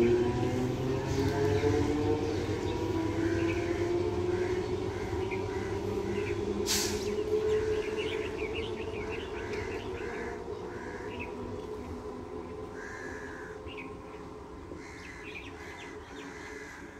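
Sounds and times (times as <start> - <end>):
birds chirping: 0.0 - 16.9
electric train hum and rumble: 0.0 - 16.9.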